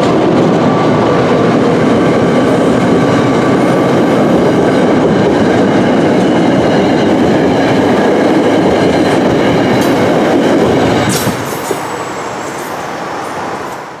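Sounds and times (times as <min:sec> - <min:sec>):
train wheels rumbling on bridge: 0:00.0 - 0:14.0.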